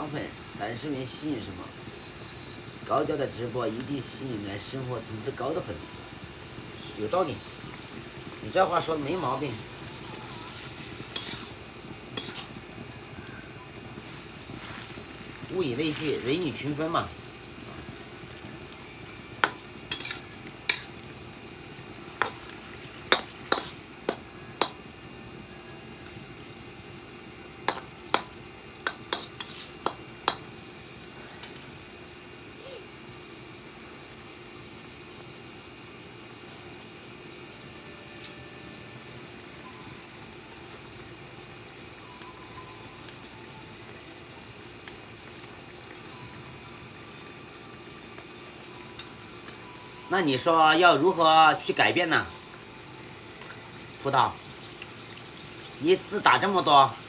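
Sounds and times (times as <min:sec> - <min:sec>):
food frying in a pan: 0:00.0 - 0:57.0.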